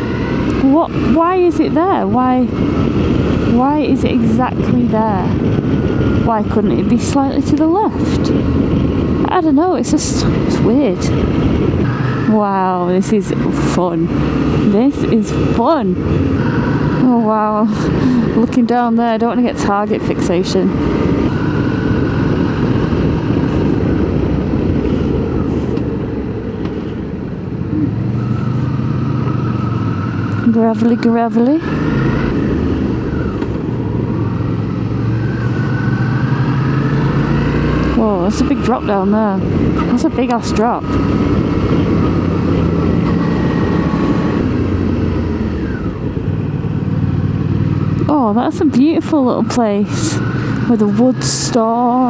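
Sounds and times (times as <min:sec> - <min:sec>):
rushing noise: 0:00.0 - 0:48.6
motorcycle engine hum: 0:00.0 - 0:52.0
wind and road noise: 0:00.0 - 0:52.0.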